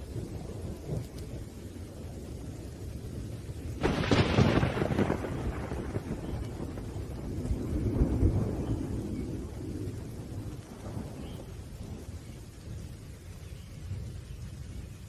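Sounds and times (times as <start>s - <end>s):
thunder: 0.0s - 13.2s
low thunder rumble: 0.0s - 15.0s
rain: 0.0s - 15.0s.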